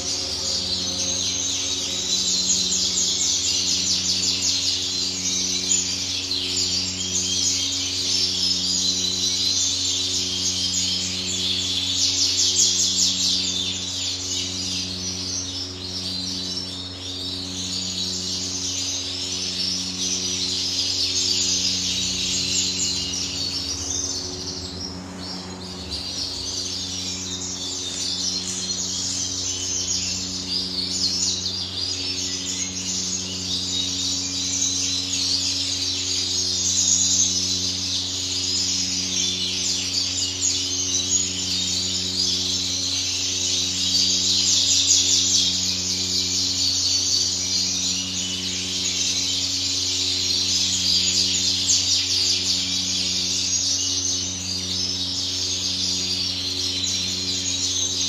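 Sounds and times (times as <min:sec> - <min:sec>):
goldfinches twittering: 0:00.0 - 0:58.0
steady low hum: 0:00.0 - 0:58.0.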